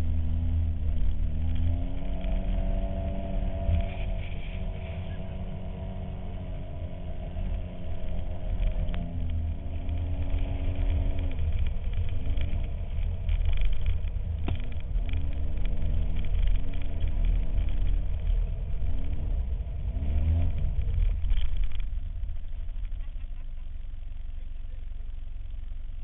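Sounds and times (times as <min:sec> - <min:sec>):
wind rumble on camera: 0:00.0 - 0:23.4
vehicle engine running: 0:00.0 - 0:26.0.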